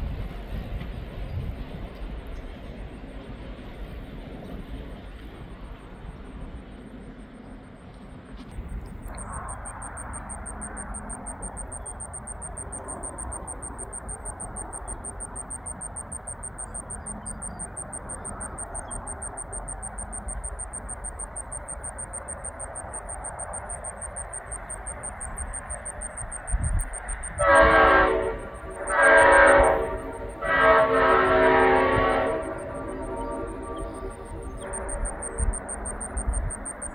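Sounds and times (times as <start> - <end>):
steady low rumble: 0.0 - 30.7
insects chirping: 1.2 - 36.9.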